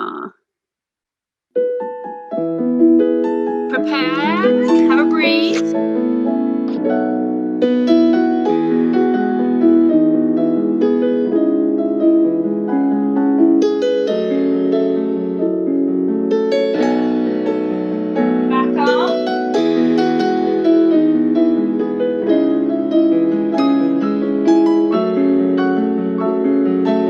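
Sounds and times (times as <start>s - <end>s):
slow gentle solo piano: 1.6s - 27.0s.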